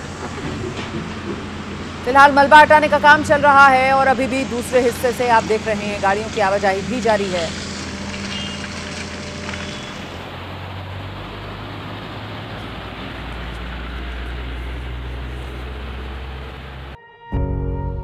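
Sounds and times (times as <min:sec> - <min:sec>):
constant rushing noise: 0:00.0 - 0:17.0
heavy engine droning: 0:00.0 - 0:17.0.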